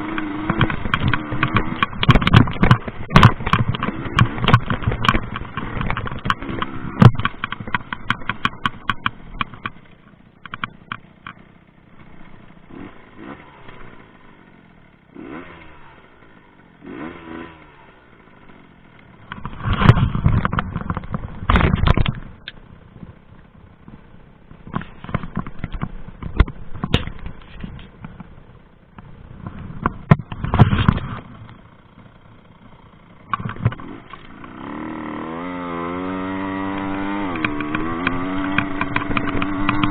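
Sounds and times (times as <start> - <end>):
bike clattering and knocking: 0.0 - 13.3, 18.8 - 34.6, 36.4 - 39.9
dirt bike engine surging: 0.0 - 39.9.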